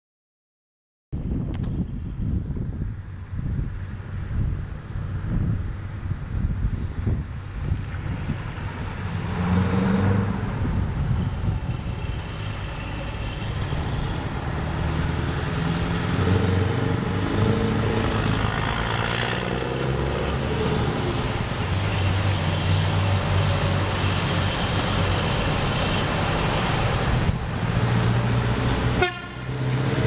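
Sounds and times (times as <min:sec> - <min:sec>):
diesel truck engines approaching: 0:01.9 - 0:30.0.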